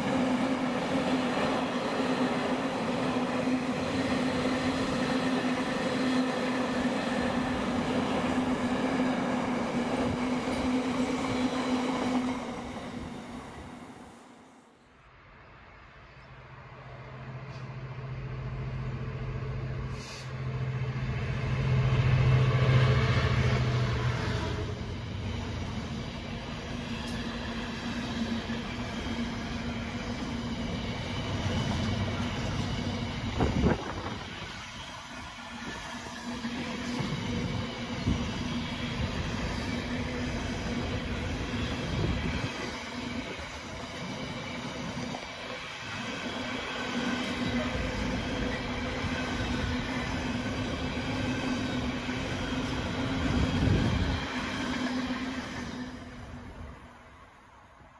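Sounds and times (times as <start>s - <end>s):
freight train wheels rumbling: 0.0s - 14.0s, 17.1s - 57.2s
diesel locomotive engine humming: 0.0s - 14.4s, 15.6s - 57.9s.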